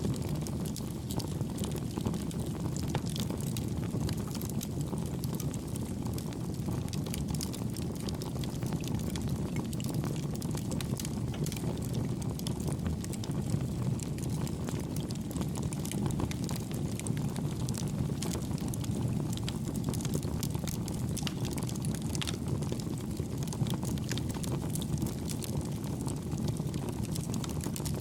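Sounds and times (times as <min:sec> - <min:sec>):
campfire crackling: 0:00.0 - 0:28.0
fire low rumble: 0:00.0 - 0:28.0.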